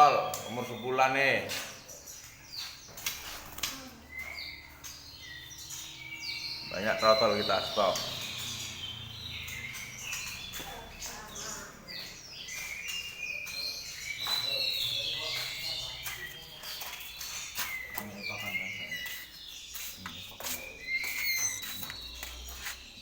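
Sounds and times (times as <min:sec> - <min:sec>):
birds chirping and whistling: 0:00.0 - 0:23.0.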